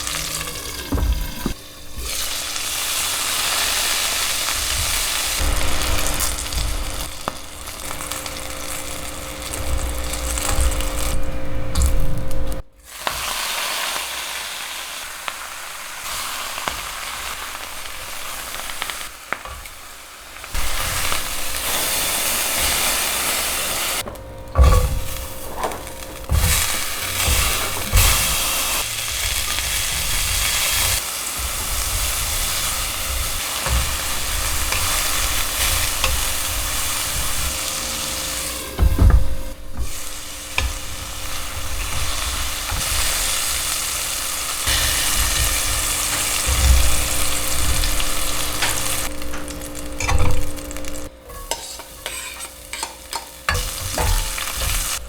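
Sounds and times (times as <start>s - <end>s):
food sizzling in a pan: 0.0s - 11.2s, 12.8s - 24.0s, 25.0s - 55.0s.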